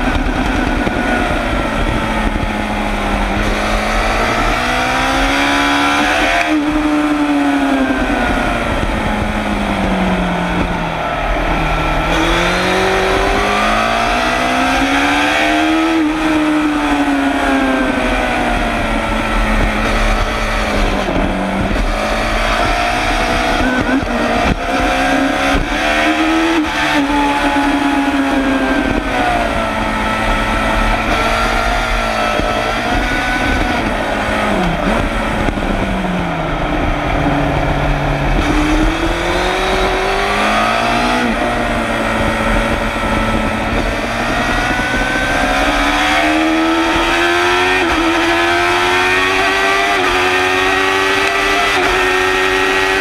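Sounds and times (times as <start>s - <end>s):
racing motorcycle engine revving: 0.0s - 53.0s.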